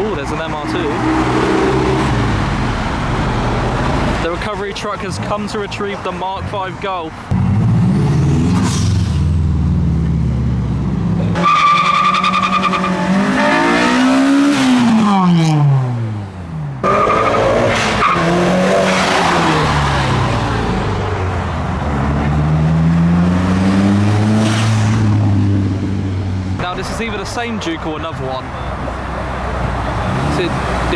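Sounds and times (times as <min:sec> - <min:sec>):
car engines revving and passing: 0:00.0 - 0:30.9.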